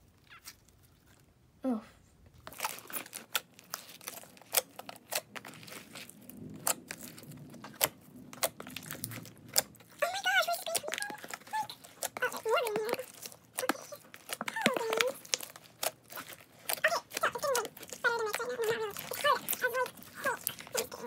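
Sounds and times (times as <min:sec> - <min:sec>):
slime squished by hand: 0:02.3 - 0:21.0
sticky wet crackles and pops: 0:02.3 - 0:21.0.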